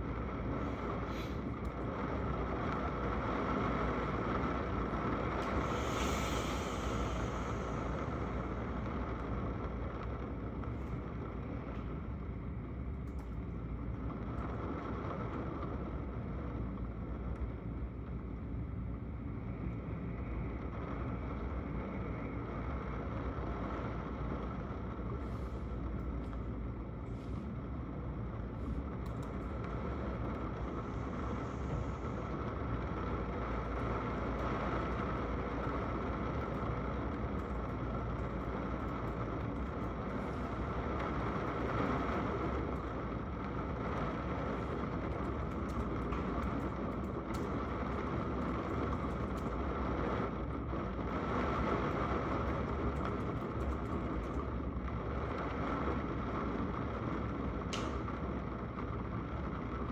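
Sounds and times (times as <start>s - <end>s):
rain heard through window: 0.0s - 59.9s.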